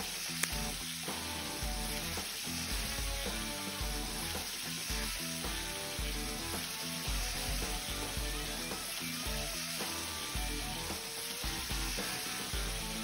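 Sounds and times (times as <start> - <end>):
background music with bass: 0.0 - 13.0
butter sizzling in a frying pan: 0.0 - 13.0.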